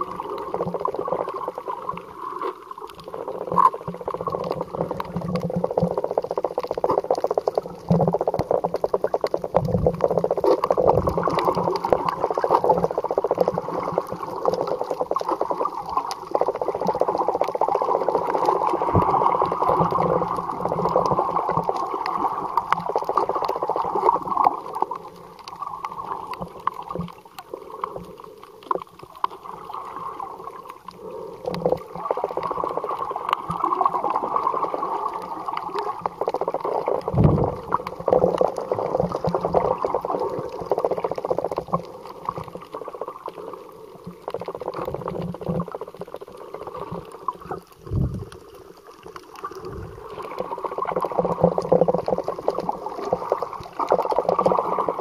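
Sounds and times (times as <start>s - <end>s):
crackling underwater noise: 0.0s - 55.0s.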